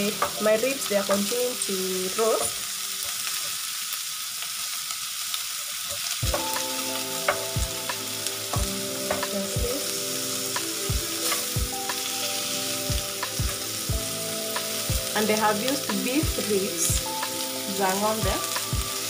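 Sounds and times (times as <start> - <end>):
meat sizzling in grill pan: 0.0 - 19.0.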